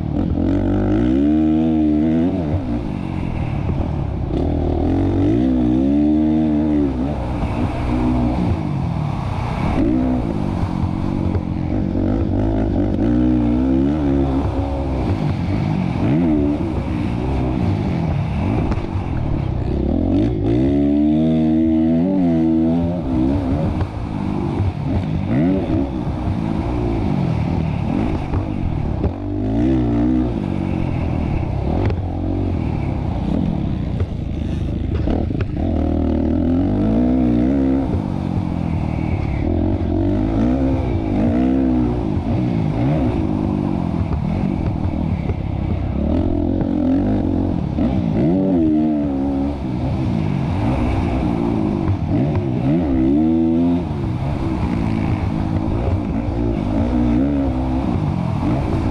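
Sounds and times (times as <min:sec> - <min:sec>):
motorbike engine revving: 0:00.0 - 0:58.9.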